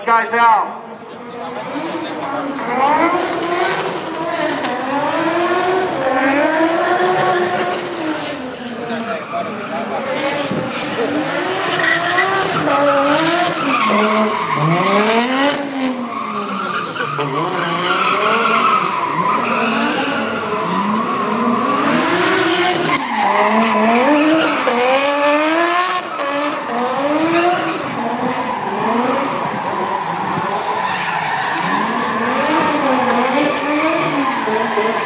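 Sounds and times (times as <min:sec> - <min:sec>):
tyres screeching on tarmac: 0:01.0 - 0:04.8, 0:07.1 - 0:35.0
car engine revving: 0:01.0 - 0:35.0.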